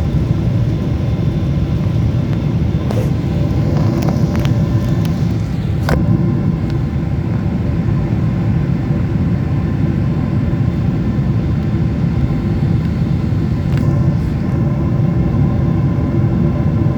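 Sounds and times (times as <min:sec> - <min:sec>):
airliner cabin engine drone: 0:00.0 - 0:16.9.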